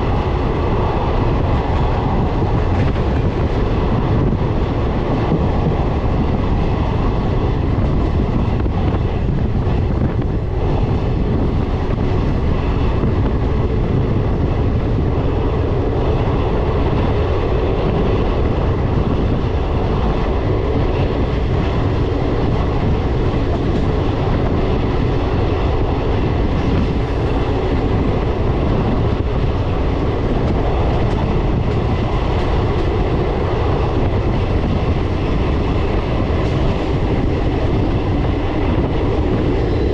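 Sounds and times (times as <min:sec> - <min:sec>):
train wheels rumbling on rails: 0:00.0 - 0:39.9
faint clickety-clack: 0:01.2 - 0:39.9.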